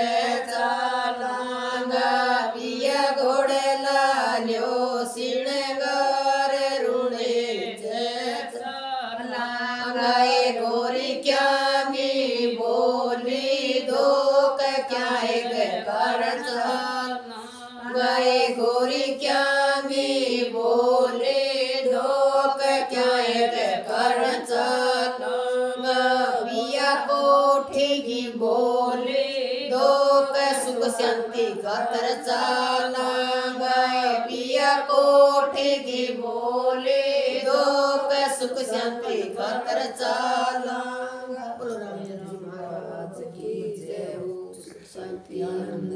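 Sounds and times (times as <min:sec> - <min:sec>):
women singing devotional song: 0:00.0 - 0:45.9.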